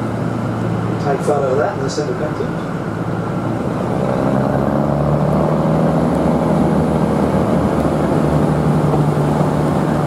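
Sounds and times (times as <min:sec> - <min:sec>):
train engine hum: 0:00.0 - 0:10.0.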